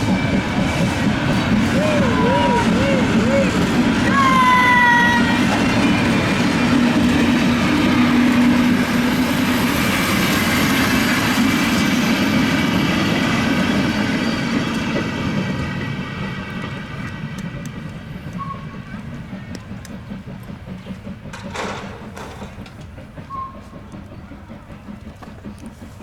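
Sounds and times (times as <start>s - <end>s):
steam train running past: 0.0s - 26.0s.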